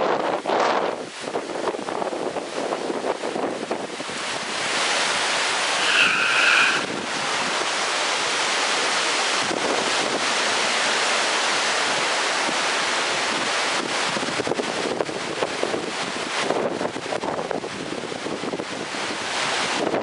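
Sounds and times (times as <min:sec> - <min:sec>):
rain falling: 0:01.0 - 0:19.8.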